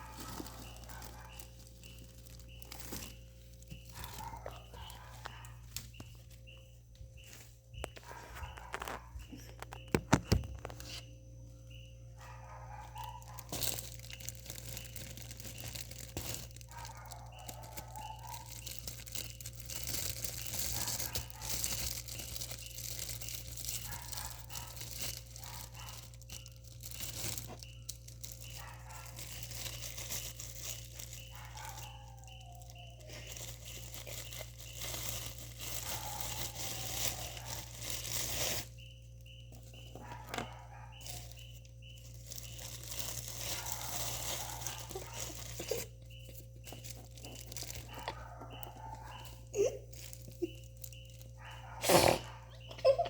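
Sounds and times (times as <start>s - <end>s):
plastic packaging crinkling: 0.0s - 53.0s.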